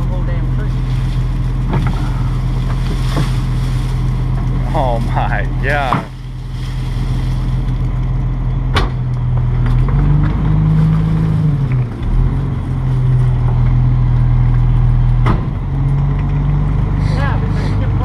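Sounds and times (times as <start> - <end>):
garbage truck engine running: 0.0 - 18.0.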